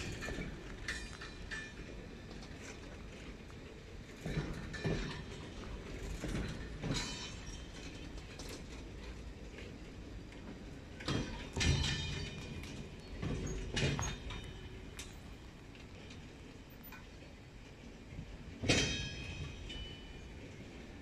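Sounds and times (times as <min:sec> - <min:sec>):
freight train rumbling: 0:00.0 - 0:21.0
metallic clanks: 0:00.0 - 0:21.0.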